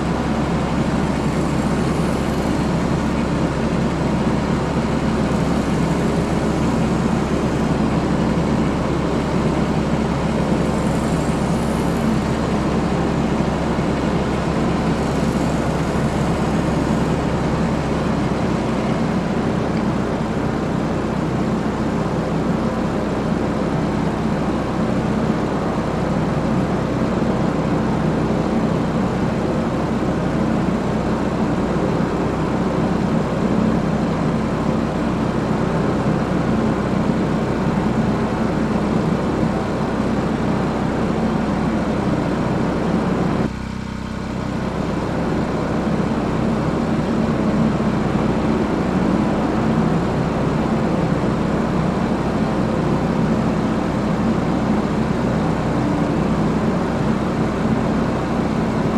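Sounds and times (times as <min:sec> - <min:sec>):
portable generator running: 0:00.0 - 0:58.9.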